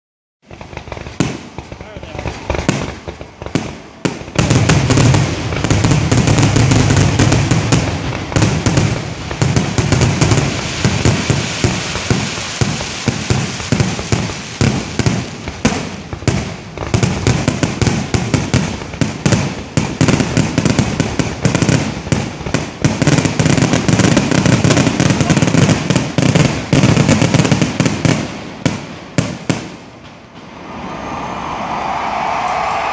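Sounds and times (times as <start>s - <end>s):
fireworks bursting overhead: 0.4s - 32.9s.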